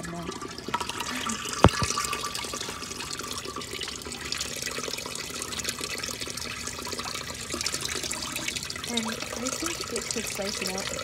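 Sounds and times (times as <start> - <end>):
toilet flush water rushing: 0.0 - 11.0.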